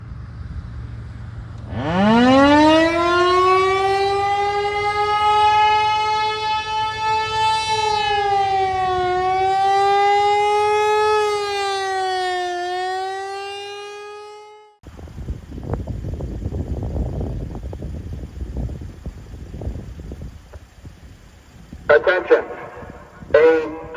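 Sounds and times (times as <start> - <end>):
outdoor warning siren: 1.0 - 15.5, 17.2 - 23.9.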